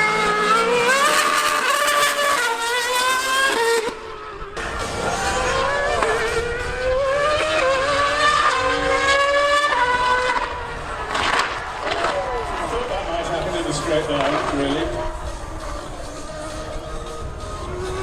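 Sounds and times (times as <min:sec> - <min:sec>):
racing engine at full throttle: 0:00.0 - 0:18.0.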